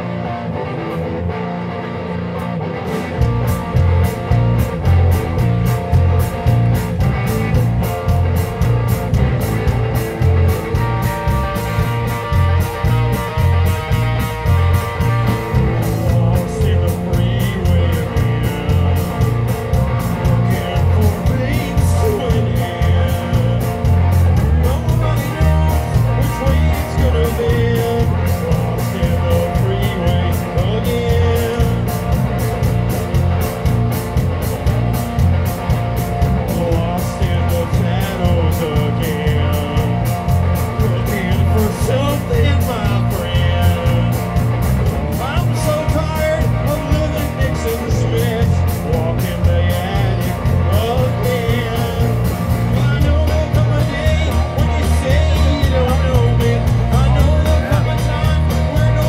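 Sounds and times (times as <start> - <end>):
bass guitar: 0.0 - 59.0
electric guitars: 0.0 - 59.0
drum kit with cymbals: 2.4 - 59.0.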